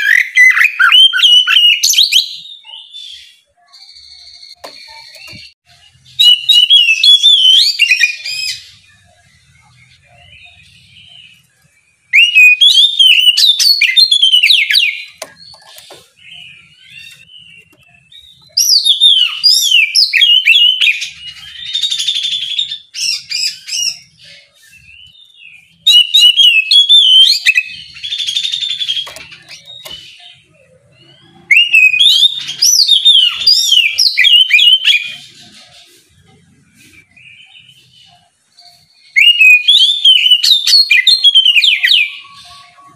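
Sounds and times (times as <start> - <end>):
magpie-robin singing: 0.0 - 42.9.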